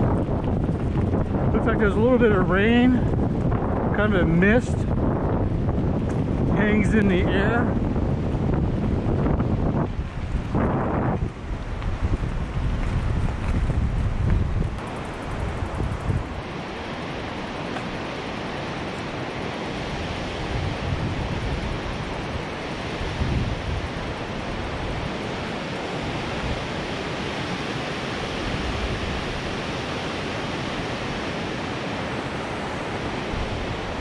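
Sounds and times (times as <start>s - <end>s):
low wind buffeting: 0.0s - 34.0s
wind rushing on microphone: 0.0s - 34.0s.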